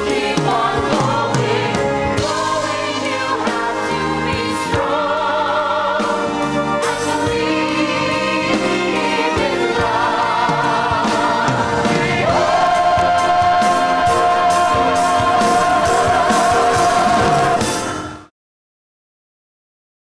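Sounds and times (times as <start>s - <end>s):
ensemble singing in chorus: 0.0s - 18.2s
instrumental backing: 0.0s - 18.3s.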